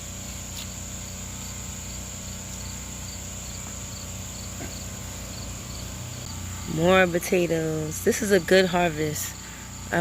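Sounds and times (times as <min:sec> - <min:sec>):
insect chirping: 0:00.0 - 0:10.0
insect high-pitched trill: 0:00.0 - 0:10.0.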